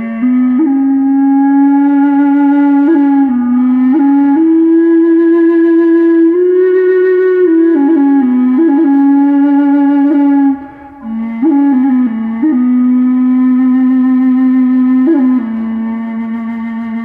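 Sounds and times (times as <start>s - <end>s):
low flute melody: 0.0s - 17.0s.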